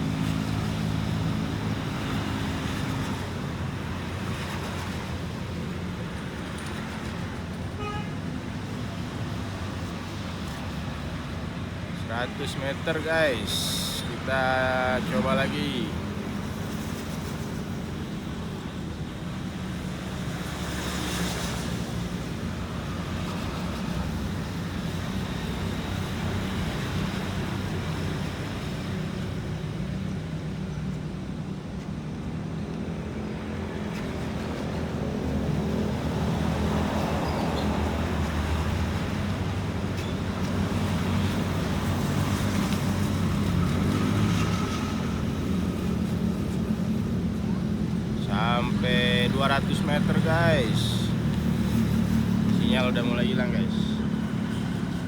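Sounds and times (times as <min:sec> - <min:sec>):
road traffic noise: 0:00.0 - 0:55.0
vehicles passing: 0:00.0 - 0:55.0.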